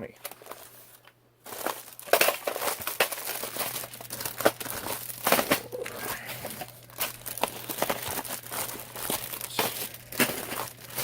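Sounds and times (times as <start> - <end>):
plastic packaging crinkling: 0.2 - 11.0.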